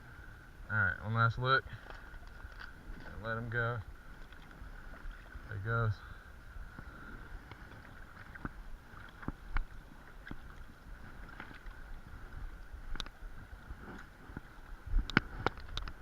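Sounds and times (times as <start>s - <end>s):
creek water running: 0.0s - 16.0s
wind rumbling on microphone: 0.0s - 16.0s.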